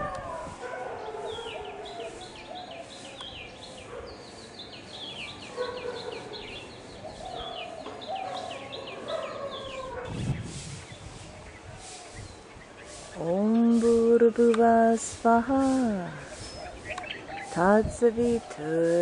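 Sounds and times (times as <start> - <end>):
lower bird calls: 0.0 - 13.9, 16.0 - 18.7.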